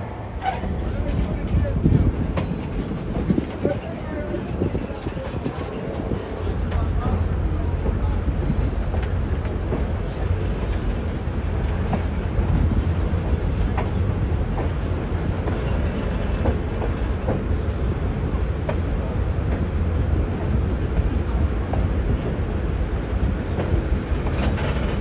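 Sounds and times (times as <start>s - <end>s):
track clicks and clacks: 0.0s - 25.0s
train wheels rumbling on rail: 0.0s - 25.0s.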